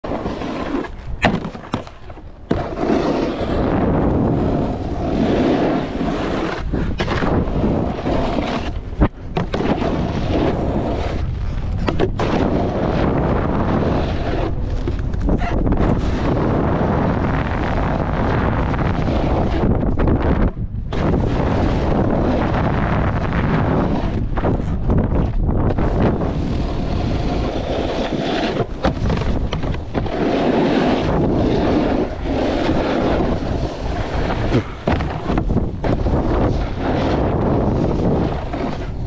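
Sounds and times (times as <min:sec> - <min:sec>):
snowboard scraping on snow: 0:00.0 - 0:39.0
wind buffeting microphone: 0:00.0 - 0:39.0.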